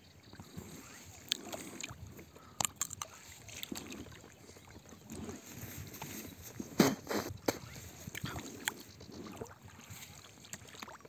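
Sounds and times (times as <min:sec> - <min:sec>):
water sloshing with oar strokes: 0:00.0 - 0:11.0.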